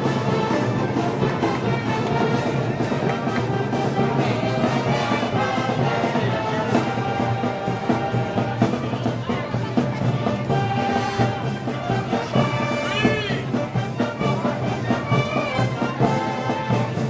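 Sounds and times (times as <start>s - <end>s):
brass band playing: 0.0s - 17.0s
drums and cymbals beat: 0.0s - 17.0s.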